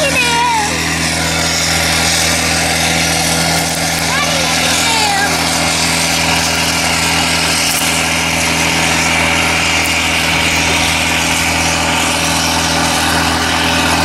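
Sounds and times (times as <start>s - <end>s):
crop sprayer engine running: 0.0s - 14.0s
steady spray hiss: 0.1s - 14.0s.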